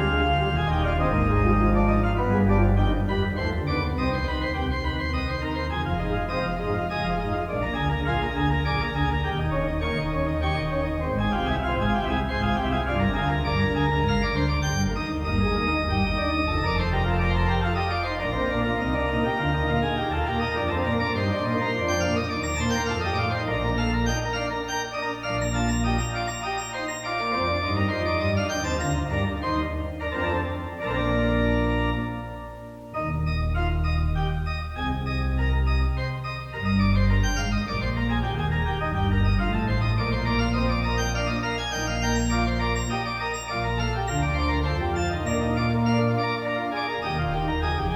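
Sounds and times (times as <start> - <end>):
organ chords: 0.0 - 47.9.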